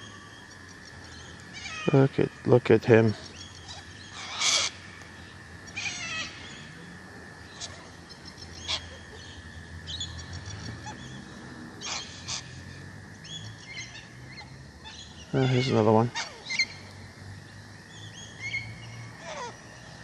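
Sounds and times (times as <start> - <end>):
wild birds calling: 0.0 - 20.0.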